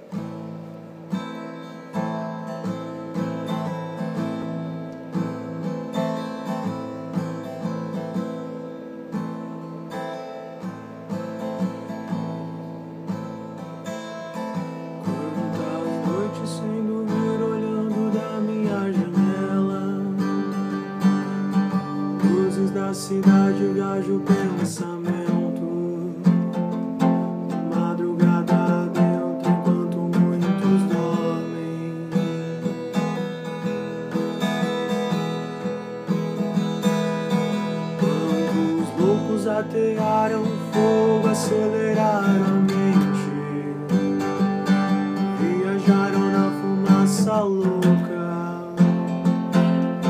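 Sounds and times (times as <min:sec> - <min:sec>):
acoustic guitar strumming chords: 0:00.0 - 0:50.0.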